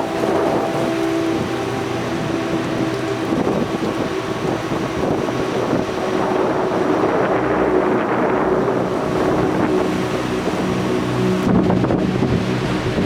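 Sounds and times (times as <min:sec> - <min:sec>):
wind buffeting microphone: 0:00.0 - 0:13.0
wind driving rain: 0:00.0 - 0:13.0.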